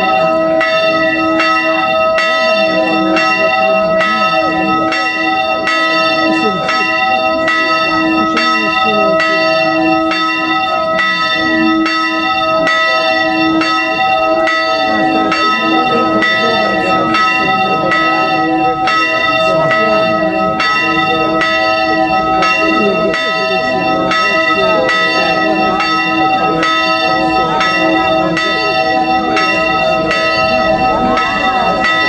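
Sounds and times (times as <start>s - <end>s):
church bell ringing: 0.0s - 32.0s.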